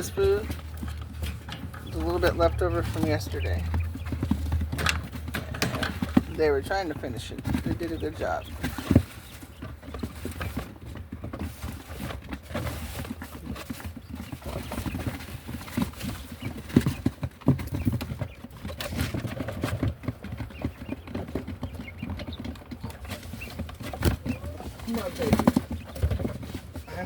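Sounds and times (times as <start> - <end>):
quail pecking and scuffling: 0.0 - 27.0.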